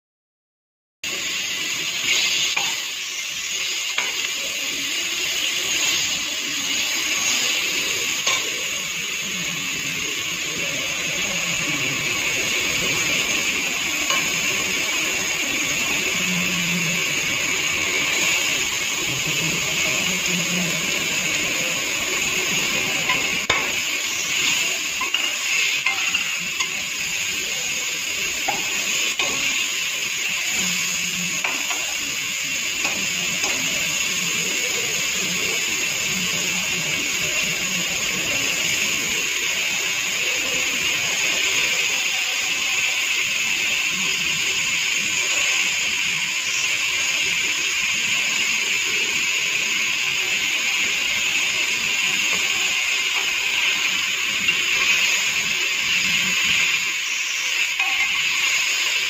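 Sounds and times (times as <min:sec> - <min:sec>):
onions sizzling in oil: 0:01.0 - 0:59.0.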